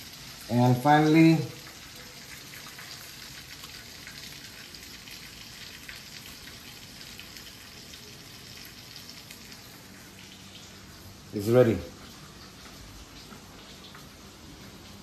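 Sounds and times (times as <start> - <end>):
oil sizzling in a frying pan: 0.0 - 15.0.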